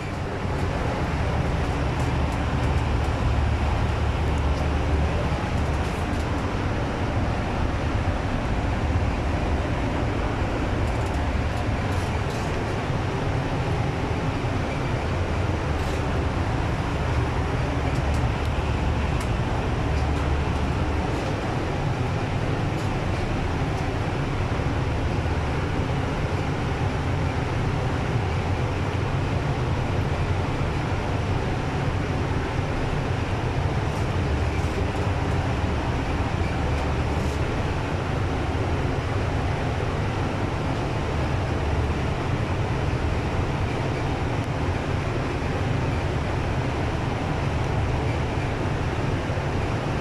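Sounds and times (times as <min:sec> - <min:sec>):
continuous rushing hiss: 0:00.0 - 0:50.0
low mechanical drone: 0:00.0 - 0:50.0.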